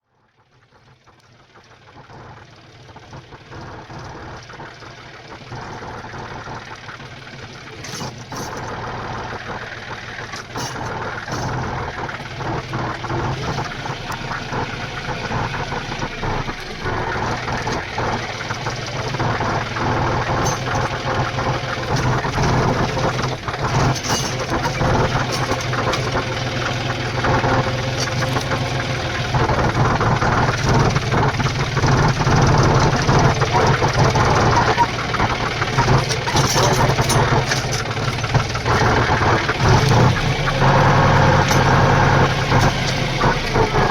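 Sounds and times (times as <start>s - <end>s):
tractor diesel engine running: 0.5s - 43.9s.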